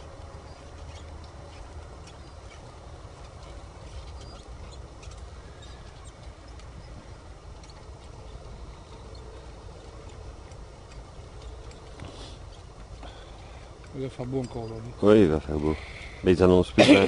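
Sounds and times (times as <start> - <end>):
faint high clicks and chirps: 0.0 - 15.1
steady low rumble: 0.0 - 16.8.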